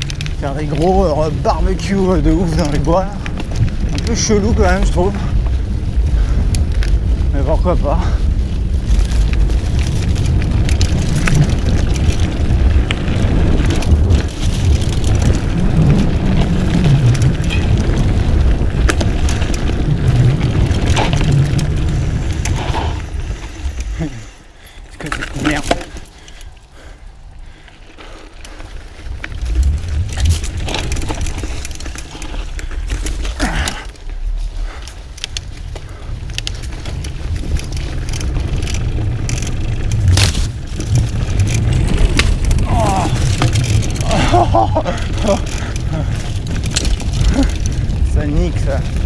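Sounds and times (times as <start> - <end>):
bike rattling and knocking: 0.0 - 49.0
bike tyre rumble on dirt: 0.0 - 49.0
wind buffeting microphone: 0.0 - 49.0.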